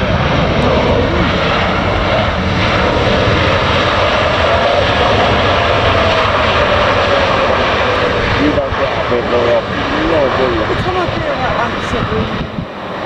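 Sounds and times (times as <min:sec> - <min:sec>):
jet engines: 0:00.0 - 0:13.0.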